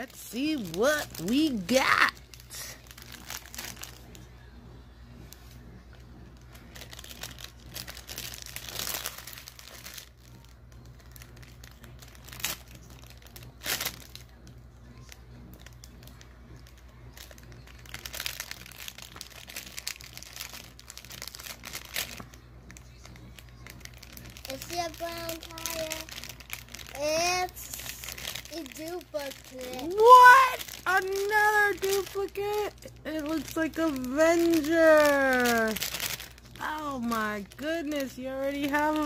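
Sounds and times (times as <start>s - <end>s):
packaging crinkling and rustling: 0.0s - 4.3s, 6.4s - 39.0s.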